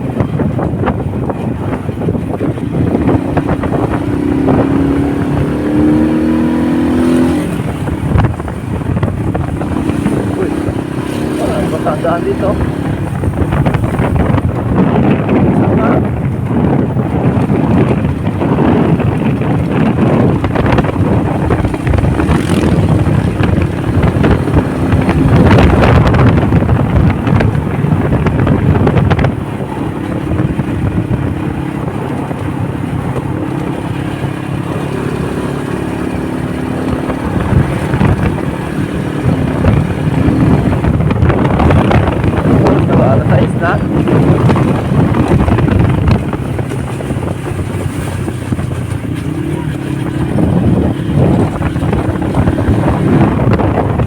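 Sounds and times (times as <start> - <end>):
motorcycle engine hum: 0.0 - 54.0
wind buffeting microphone: 0.0 - 54.0.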